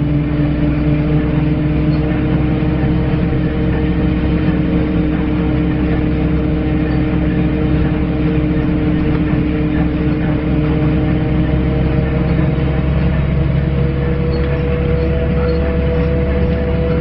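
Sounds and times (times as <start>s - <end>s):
bus engine droning: 0.0s - 17.0s.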